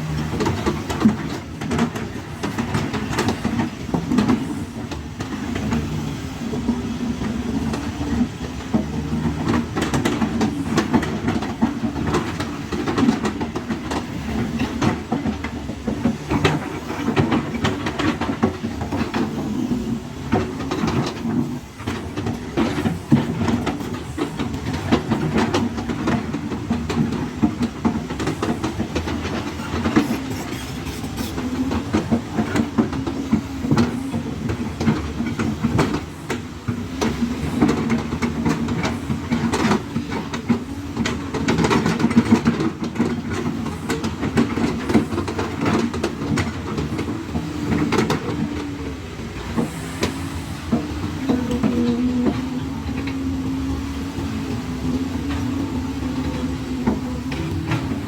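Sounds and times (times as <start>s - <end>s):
excavator clanks and knocks: 0.0s - 58.0s
excavator diesel engine running: 0.0s - 58.0s.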